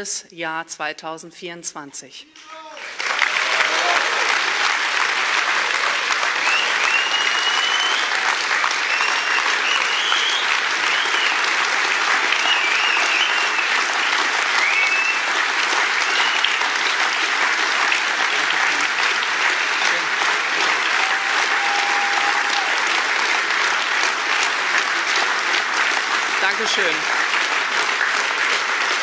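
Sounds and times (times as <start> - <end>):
audience applauding: 2.4 - 29.0.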